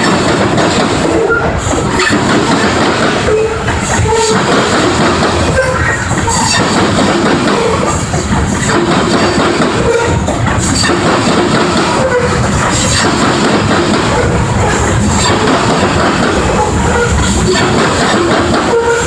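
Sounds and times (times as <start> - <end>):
train clattering: 0.0 - 19.0
train wheels rumbling on rails: 0.0 - 19.0.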